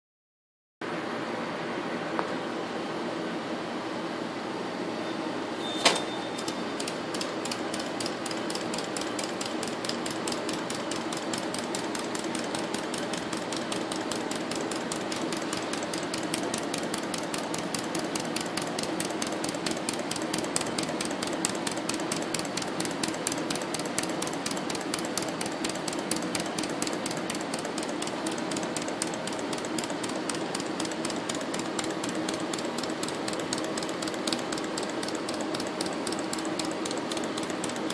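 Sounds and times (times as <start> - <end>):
steady hum: 0.8 - 37.9
model steam engine clicking: 6.4 - 37.9.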